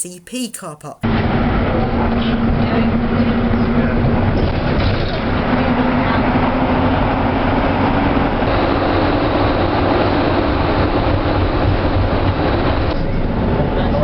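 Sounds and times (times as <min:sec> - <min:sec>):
bus engine: 0:01.4 - 0:14.0.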